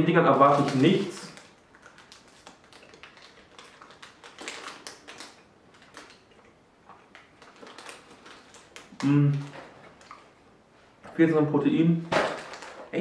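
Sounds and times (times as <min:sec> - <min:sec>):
plastic wrapper crinkling: 0:00.1 - 0:10.4, 0:12.1 - 0:13.0.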